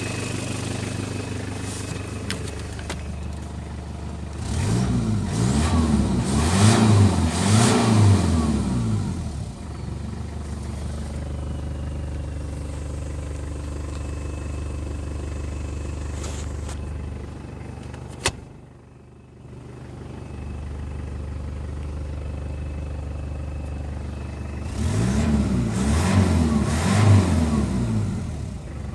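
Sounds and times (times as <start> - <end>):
engine idling and revving: 0.0 - 28.9.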